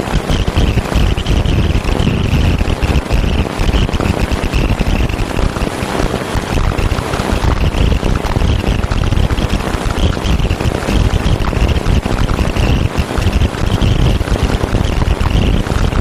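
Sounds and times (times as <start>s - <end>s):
low rumble under a hiss: 0.0s - 16.0s.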